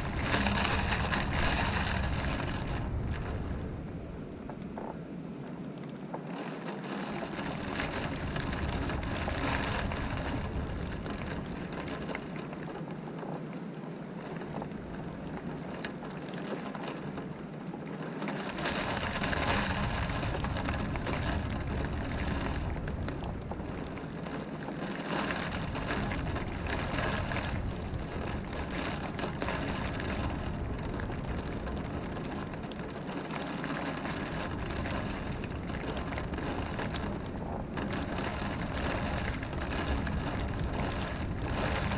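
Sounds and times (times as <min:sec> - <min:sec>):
low rumble of wind: 0:00.0 - 0:41.9
rain beating on a window: 0:00.0 - 0:41.9.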